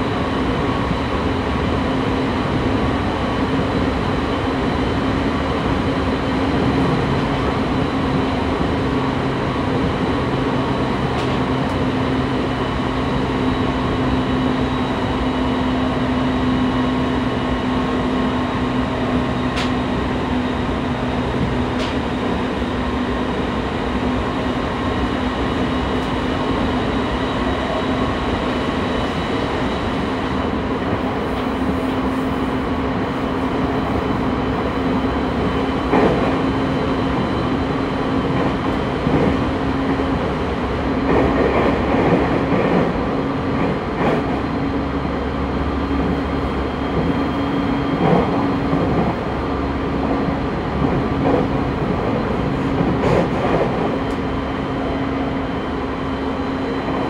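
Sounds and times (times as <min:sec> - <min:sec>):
steady train hum: 0:00.0 - 0:57.0
train wheels rumbling on rail: 0:00.0 - 0:57.0.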